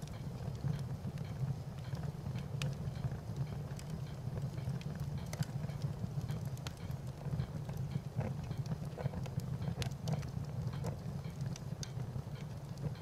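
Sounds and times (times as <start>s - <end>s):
fire crackling and popping: 0.0s - 13.0s
fire low rumble: 0.0s - 13.0s.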